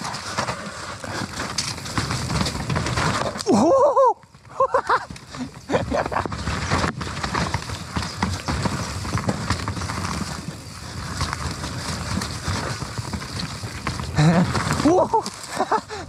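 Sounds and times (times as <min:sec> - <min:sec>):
bike chain and frame rattling: 0:00.0 - 0:16.0.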